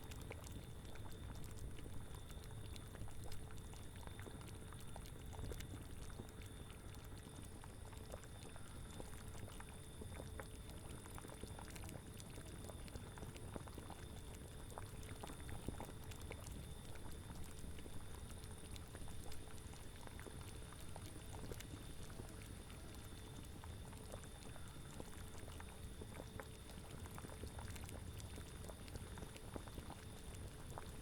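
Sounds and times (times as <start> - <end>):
cauldron bubbling: 0.1 - 31.0.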